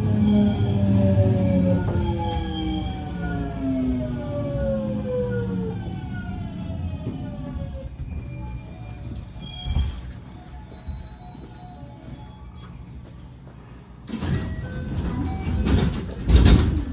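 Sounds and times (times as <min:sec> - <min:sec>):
train inverter whining: 0:00.0 - 0:16.9
train rumbling: 0:00.0 - 0:16.9.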